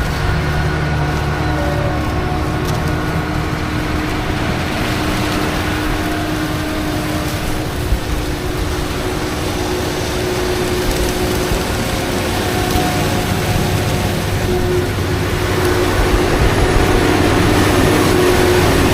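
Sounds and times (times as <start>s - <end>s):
diesel machinery rumbling: 0.0s - 18.9s
steady whine: 0.0s - 18.9s.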